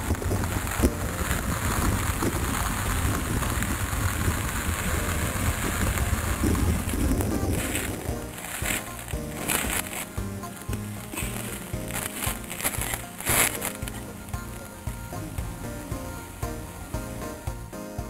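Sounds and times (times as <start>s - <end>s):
wind rumbling on microphone: 0.0s - 17.7s.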